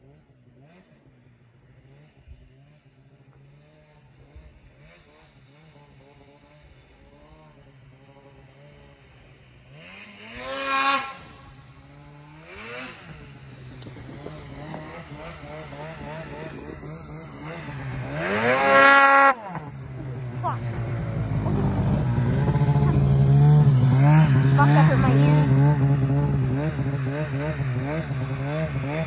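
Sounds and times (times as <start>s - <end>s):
snowmobile engine revving: 0.0s - 29.0s.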